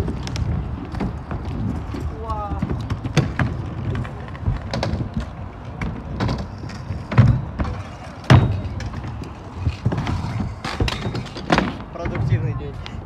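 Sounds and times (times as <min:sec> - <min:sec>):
scooter wheels rolling on concrete: 0:00.0 - 0:13.0.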